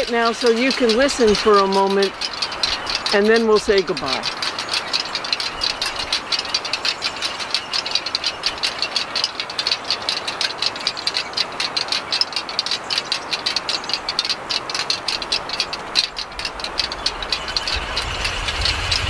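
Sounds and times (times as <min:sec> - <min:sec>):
wind sculpture birds clattering: 0:00.0 - 0:19.0.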